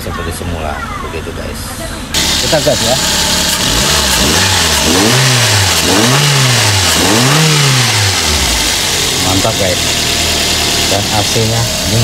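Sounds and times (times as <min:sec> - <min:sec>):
car engine revving: 0:02.1 - 0:12.0.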